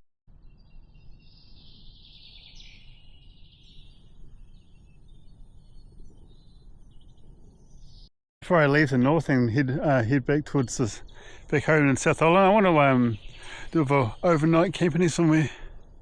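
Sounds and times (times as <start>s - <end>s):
birds chattering and chirping: 0.8s - 16.0s.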